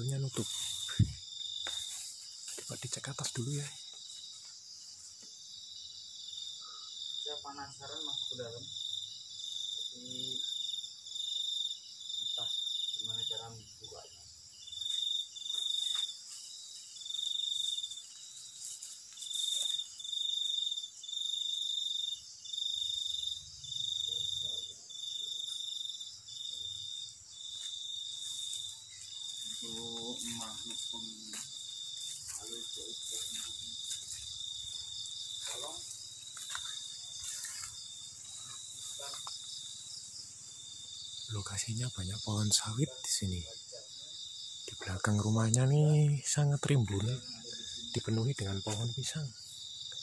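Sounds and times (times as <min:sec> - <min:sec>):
cricket chirping close by: 0:00.0 - 0:50.0
high insect chorus: 0:00.0 - 0:50.0.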